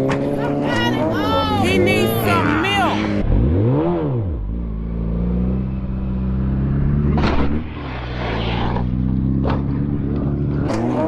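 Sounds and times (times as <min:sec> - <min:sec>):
motorcycle engine running: 0:00.0 - 0:07.5, 0:08.9 - 0:11.0.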